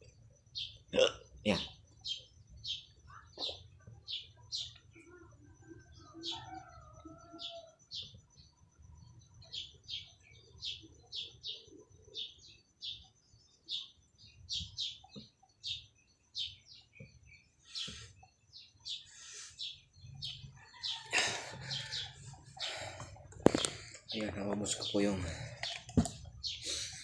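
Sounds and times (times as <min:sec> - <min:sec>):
small bird chirping: 0:00.0 - 0:27.0.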